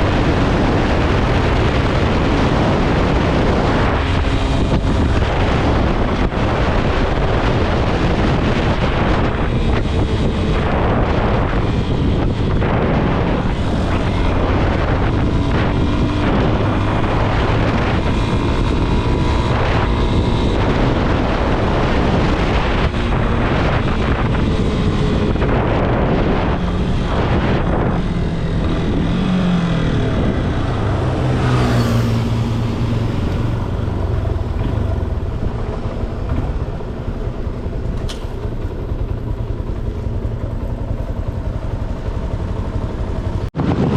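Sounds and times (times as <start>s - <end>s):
motorcycles riding in a group: 0.0s - 43.9s
wind rushing over microphone: 0.0s - 43.9s.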